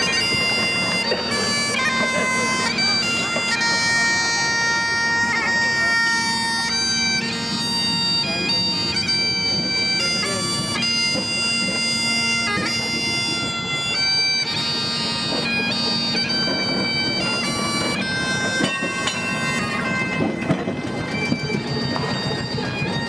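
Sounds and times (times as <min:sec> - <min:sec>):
bagpipes playing a tune: 0:00.0 - 0:23.0.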